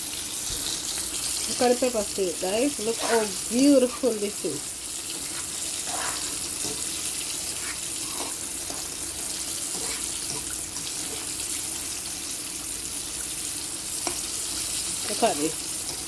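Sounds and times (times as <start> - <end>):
chicken sizzling in hot oil: 0.0 - 16.0.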